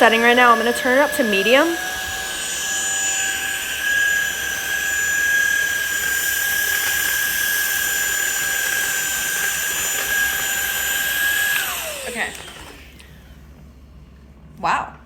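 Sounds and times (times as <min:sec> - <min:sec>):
stick vacuum whining: 0:00.0 - 0:13.8.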